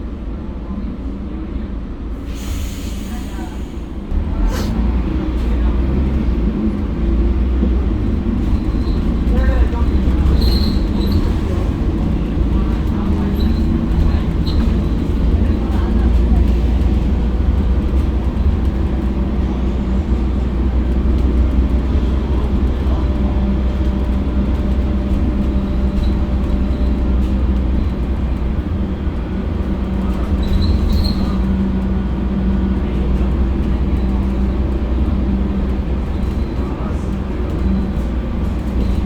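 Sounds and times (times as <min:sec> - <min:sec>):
diesel bus engine drone: 0:00.0 - 0:39.0.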